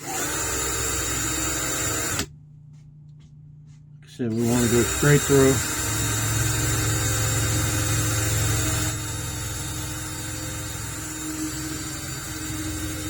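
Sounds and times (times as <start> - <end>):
cordless drill drilling metal: 0.0 - 2.3, 4.3 - 13.0.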